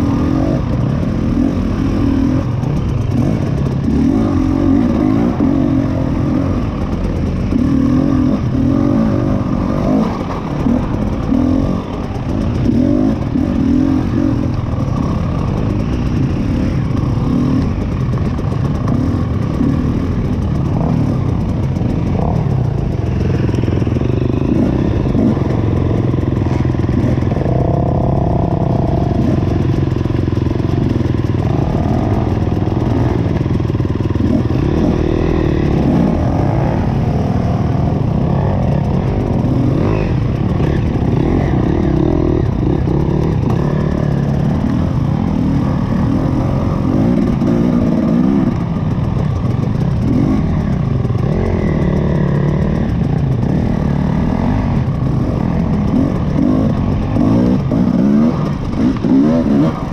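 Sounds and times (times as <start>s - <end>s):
dirt bike engine revving: 0.0s - 59.9s
other dirt bikes nearby: 0.0s - 59.9s.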